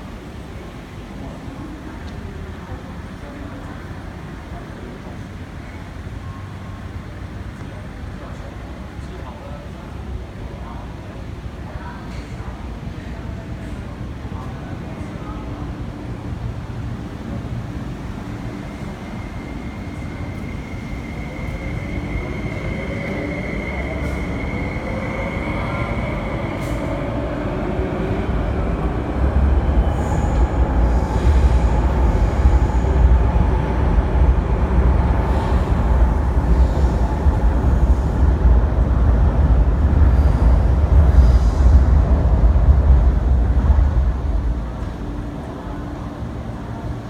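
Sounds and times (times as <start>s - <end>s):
train rolling rumble: 0.0s - 47.0s.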